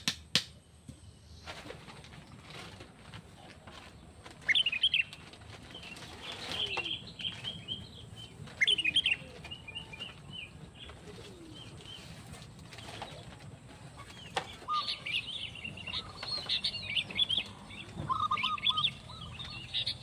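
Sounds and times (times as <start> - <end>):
birds chirping: 0.6 - 20.0.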